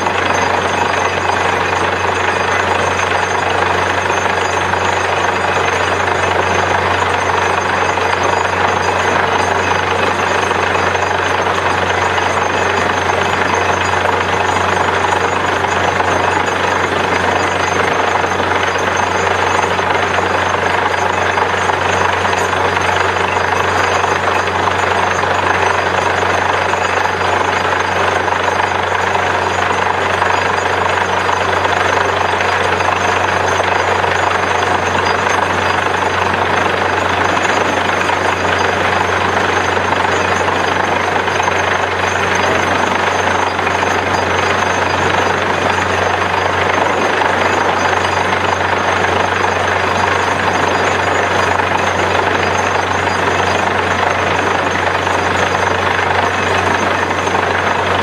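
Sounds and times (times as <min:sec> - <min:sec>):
drilling rig engine drone: 0:00.0 - 0:58.0.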